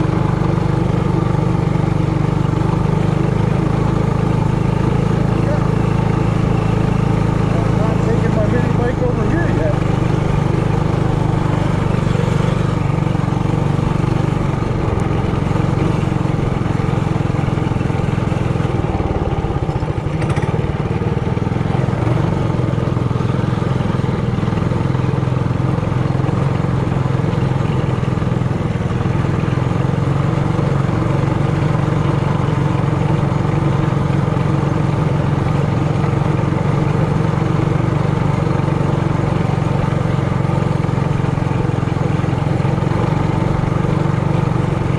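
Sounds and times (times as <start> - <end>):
mini bike engine running: 0.0 - 44.9.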